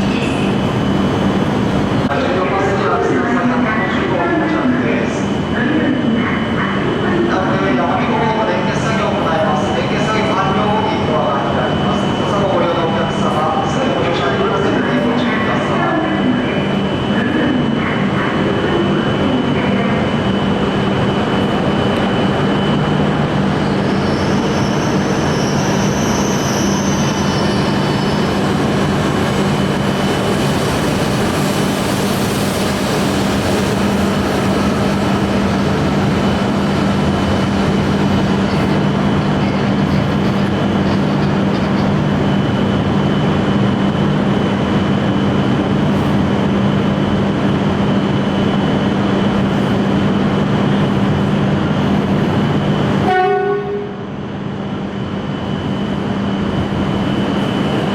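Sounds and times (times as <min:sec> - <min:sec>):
train electric hum: 0:00.0 - 0:57.9.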